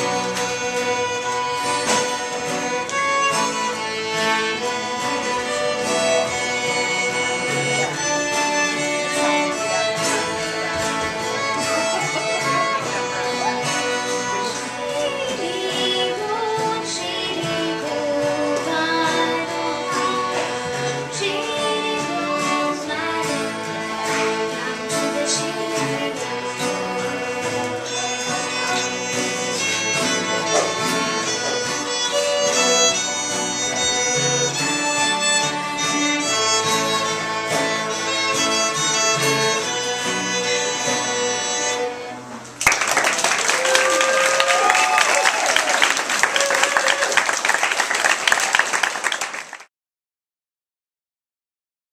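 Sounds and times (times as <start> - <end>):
fiddles playing a folk tune: 0.0 - 47.7
acoustic guitar: 0.0 - 49.1.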